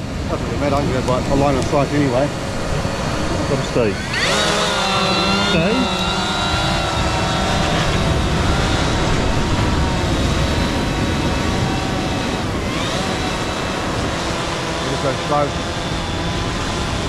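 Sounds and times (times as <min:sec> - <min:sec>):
drone propellers whining: 0:00.0 - 0:17.0
low steady rumble: 0:00.0 - 0:17.0.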